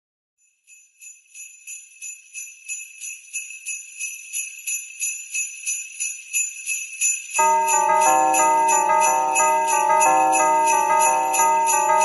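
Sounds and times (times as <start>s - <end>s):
jingle bells shaken: 0.7s - 12.0s.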